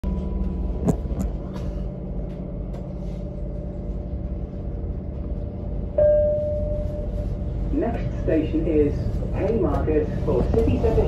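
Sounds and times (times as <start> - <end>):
train running low rumble: 0.0 - 11.0.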